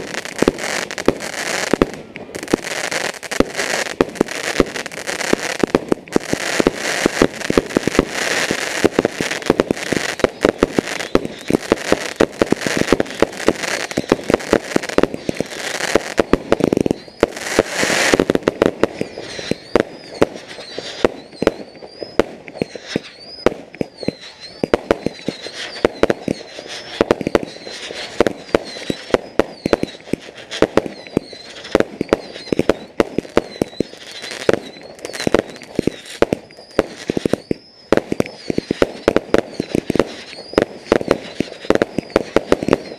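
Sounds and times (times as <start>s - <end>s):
fireworks bangs and crackles: 0.0s - 42.9s
whistling firework tone: 0.0s - 42.9s.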